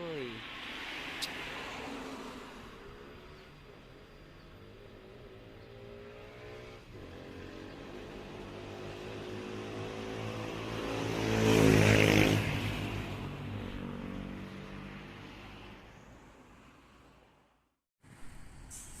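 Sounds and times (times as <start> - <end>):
bus passing by: 0.2 - 17.5.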